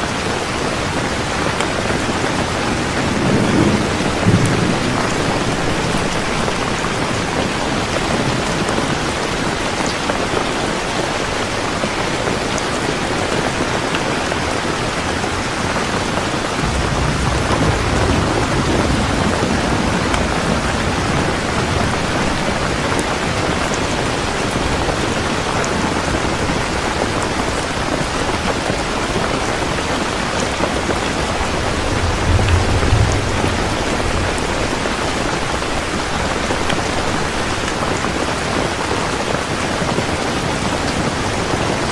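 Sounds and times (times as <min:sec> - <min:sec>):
heavy rain hissing: 0:00.0 - 0:41.9
thunder rumbling: 0:00.8 - 0:10.5, 0:14.5 - 0:39.3.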